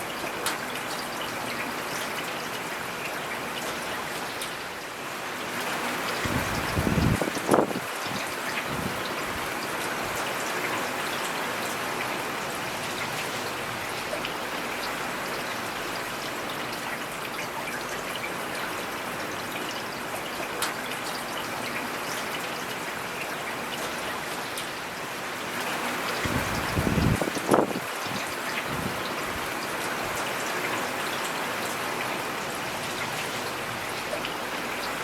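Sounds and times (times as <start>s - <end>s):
rain in forest: 0.0s - 35.0s
rush of water: 0.0s - 35.0s.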